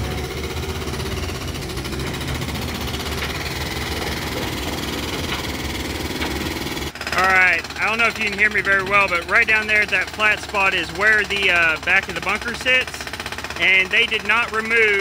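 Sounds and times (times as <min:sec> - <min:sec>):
diesel engine running steadily: 0:00.0 - 0:15.0.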